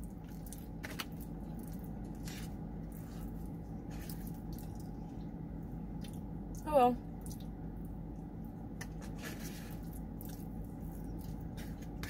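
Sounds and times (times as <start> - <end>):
chewing soft food: 0.0 - 8.6, 9.3 - 12.0
steady low hum: 0.0 - 12.0.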